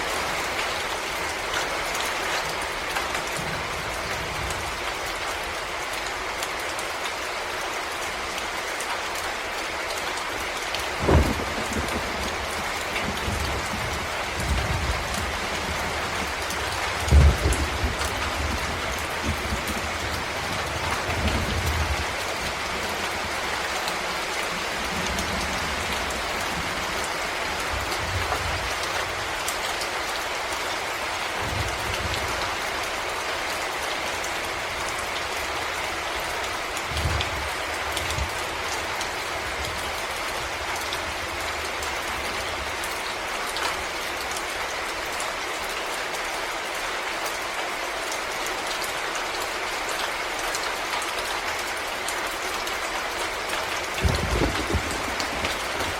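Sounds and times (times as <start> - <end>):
rain falling in a forest: 0.0 - 55.9.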